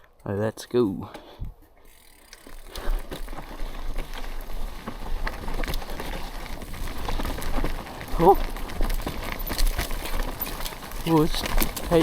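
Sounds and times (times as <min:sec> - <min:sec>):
tyres on loose dirt: 0:00.2 - 0:12.0
bike rattling and clicking: 0:01.1 - 0:12.0.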